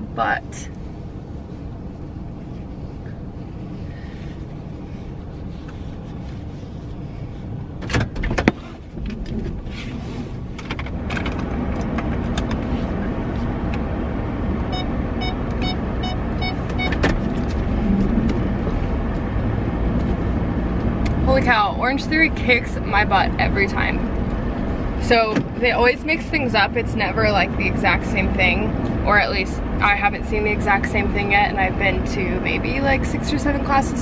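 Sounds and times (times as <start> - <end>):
road noise: 0.0 - 34.0
truck engine running: 0.0 - 34.0.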